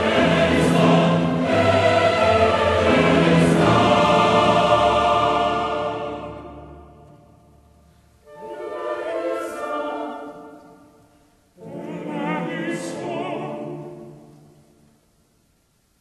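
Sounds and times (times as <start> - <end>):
classical singing: 0.0 - 15.9.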